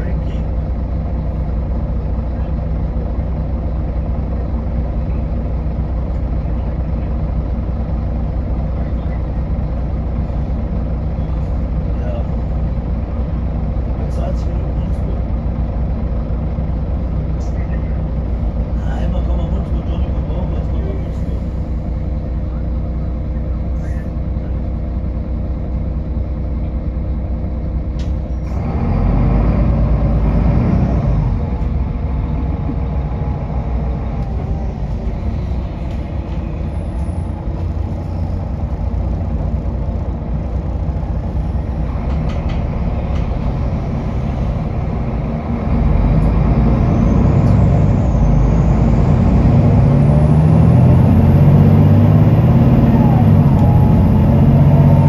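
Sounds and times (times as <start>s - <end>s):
bus engine running: 0.0s - 55.0s.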